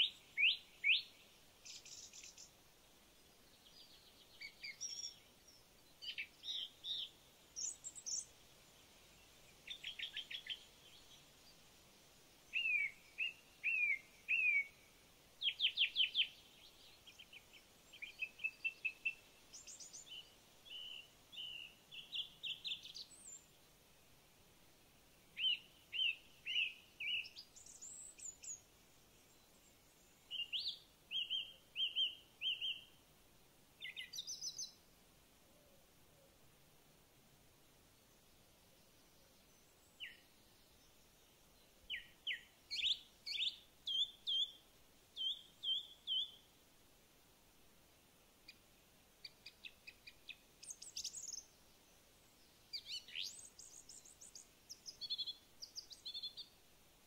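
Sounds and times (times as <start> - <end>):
songbirds singing: 0.0 - 33.1, 33.7 - 36.5, 37.7 - 46.6, 47.9 - 57.0
faint background hiss: 0.0 - 57.0.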